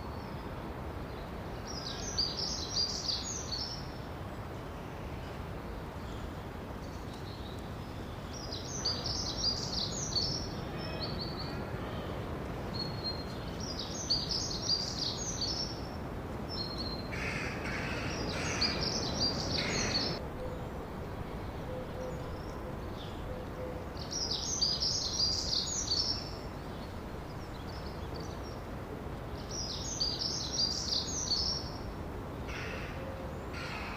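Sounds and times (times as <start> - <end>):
outdoor ambient hiss: 0.0 - 33.9
songbirds chirping: 0.0 - 33.9.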